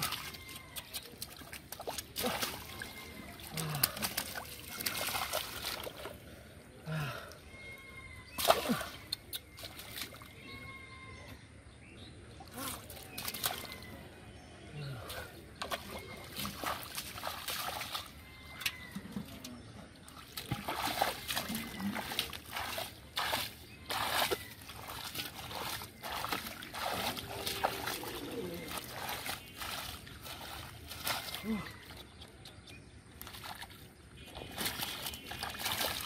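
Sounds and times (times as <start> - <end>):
muddy water splashing: 0.0 - 10.7, 12.3 - 36.0.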